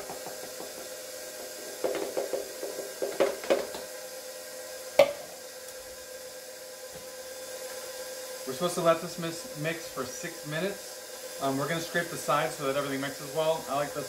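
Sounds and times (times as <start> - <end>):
stand mixer humming: 0.0 - 14.0.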